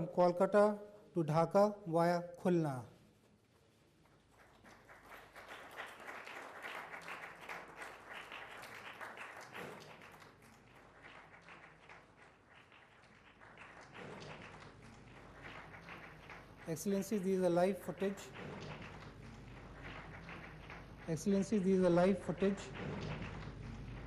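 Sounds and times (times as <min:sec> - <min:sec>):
audience applauding: 0:04.2 - 0:24.0.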